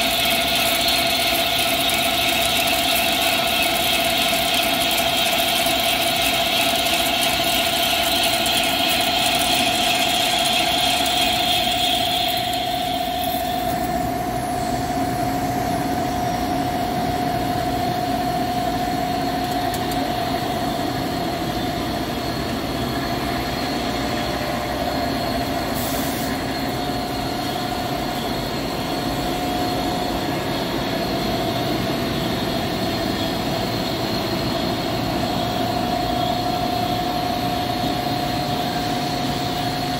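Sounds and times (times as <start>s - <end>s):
lathe running with steady whine: 0.0s - 39.9s.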